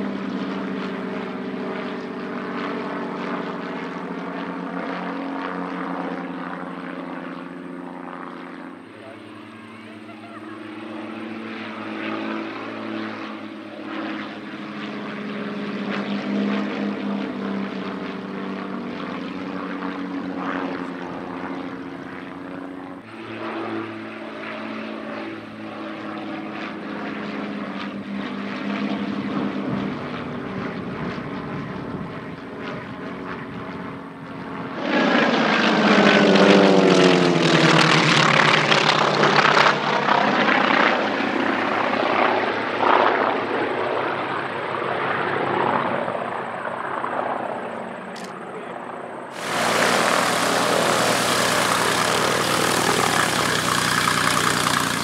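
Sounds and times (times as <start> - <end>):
propeller aircraft drone overhead: 0.0 - 55.0
propeller aircraft flypast: 0.0 - 55.0.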